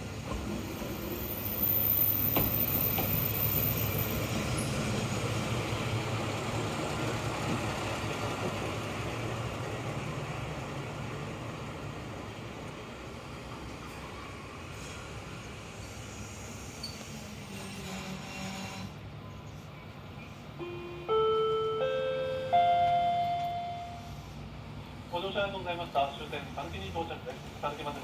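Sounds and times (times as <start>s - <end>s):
diesel railcar engine and wheels rumble: 0.0s - 28.0s.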